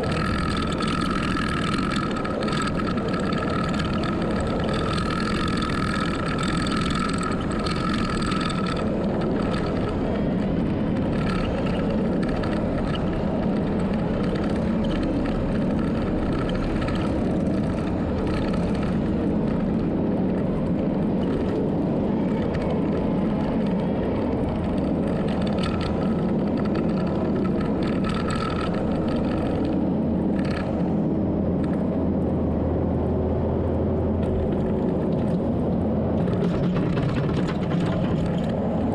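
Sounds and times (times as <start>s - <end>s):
heavy machine running under load: 0.0s - 38.9s.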